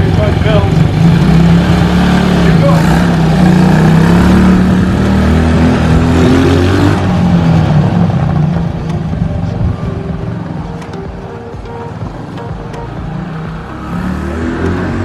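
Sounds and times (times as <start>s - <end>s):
quad bike engine accelerating: 0.0s - 15.0s.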